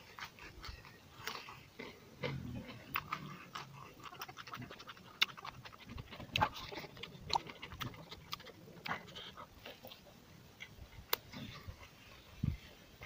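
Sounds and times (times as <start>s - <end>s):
chewing and lip-smacking: 0.0s - 12.6s.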